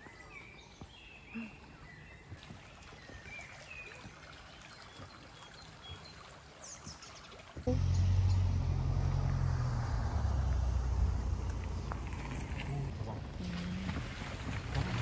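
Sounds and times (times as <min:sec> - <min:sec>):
creek trickling over pebbles: 0:00.0 - 0:15.0.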